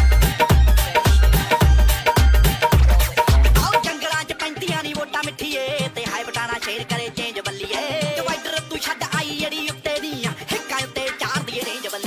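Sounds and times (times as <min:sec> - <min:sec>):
dhol remix music with heavy bass: 0:00.0 - 0:12.0.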